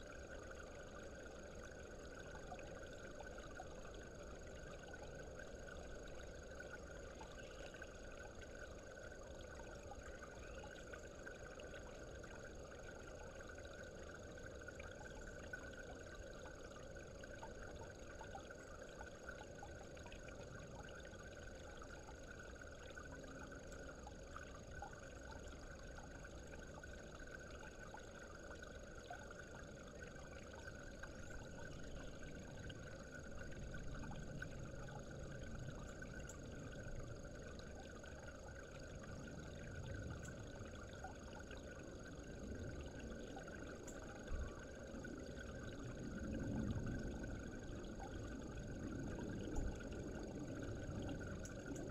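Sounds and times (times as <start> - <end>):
faint steady hum: 0.0 - 51.9.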